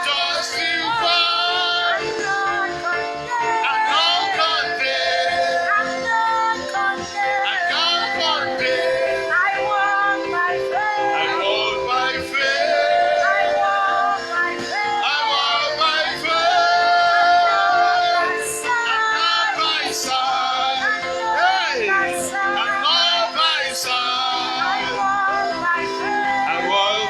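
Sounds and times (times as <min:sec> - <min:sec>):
instrumental accompaniment: 0:00.0 - 0:27.0
woman singing worship song: 0:00.0 - 0:27.0.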